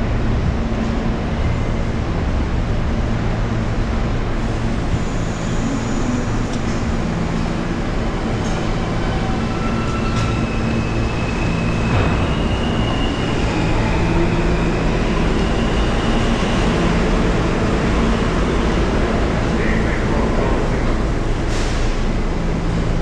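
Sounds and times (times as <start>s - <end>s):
subway train rumble and hum: 0.0s - 23.0s.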